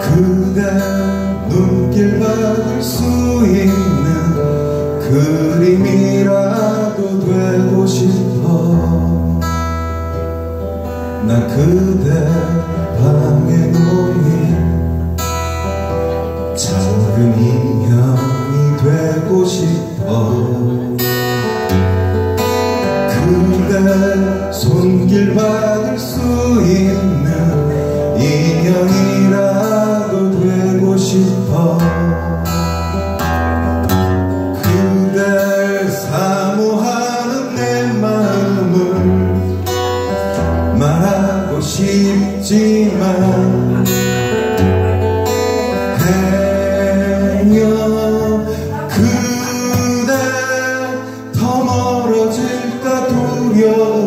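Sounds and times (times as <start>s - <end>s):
man singing: 0.0s - 9.7s, 11.1s - 54.0s
acoustic guitar strumming: 0.0s - 54.0s.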